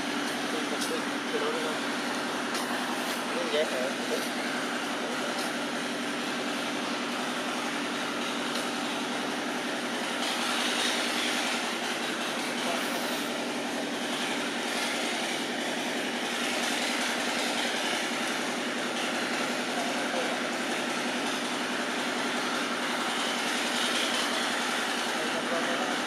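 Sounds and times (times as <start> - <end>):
rushing hiss: 0.0 - 21.3.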